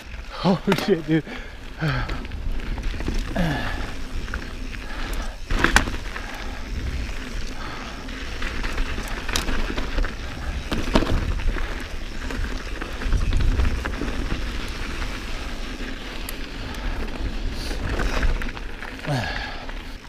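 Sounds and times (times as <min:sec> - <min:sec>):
bike rattling over rough ground: 0:00.0 - 0:20.0
bike tyres on dirt trail: 0:00.0 - 0:20.0.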